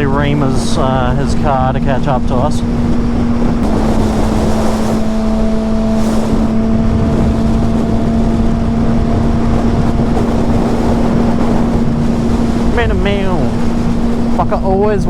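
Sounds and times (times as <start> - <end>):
motorcycle engine at steady revs: 0.0 - 15.0
wind rumble on microphone: 0.0 - 15.0.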